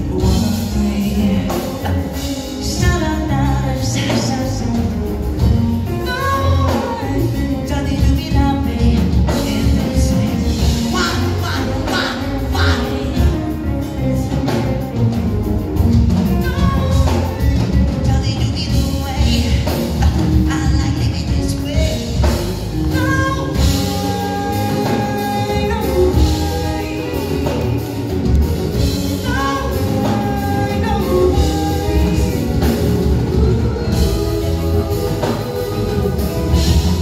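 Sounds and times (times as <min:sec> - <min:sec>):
drum kit: 0:00.0 - 0:37.0
electric bass: 0:00.0 - 0:37.0
electric guitar: 0:00.0 - 0:37.0
person singing into microphone: 0:00.0 - 0:37.0.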